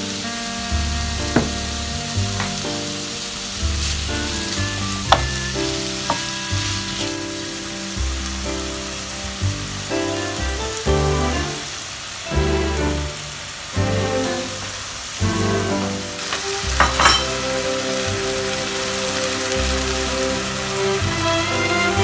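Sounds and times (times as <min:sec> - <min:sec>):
background music with bass: 0:00.0 - 0:11.7, 0:12.3 - 0:22.0
vegetables sizzling in a frying pan: 0:00.0 - 0:22.0.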